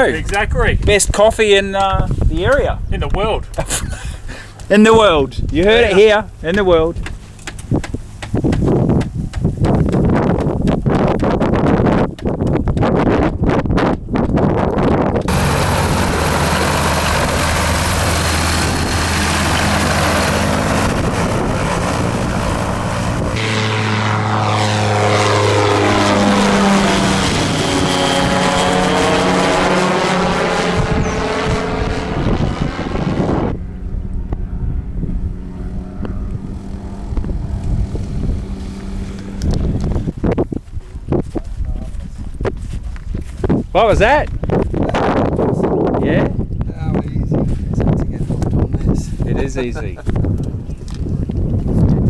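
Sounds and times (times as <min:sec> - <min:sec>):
light aircraft engine and propeller: 0:02.1 - 0:11.7, 0:14.8 - 0:52.0.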